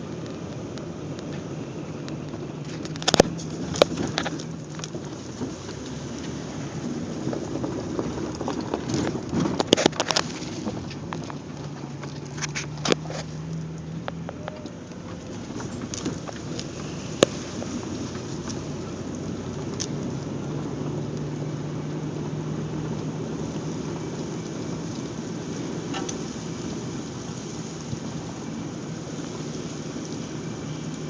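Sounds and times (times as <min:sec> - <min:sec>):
off-road vehicle engine: 0:00.0 - 0:31.0
vehicle knocks and rattles: 0:00.0 - 0:31.0.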